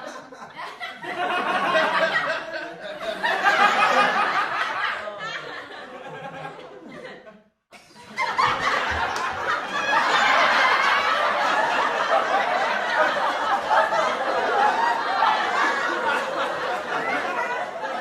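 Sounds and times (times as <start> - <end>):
studio audience laughing: 0.0 - 18.0.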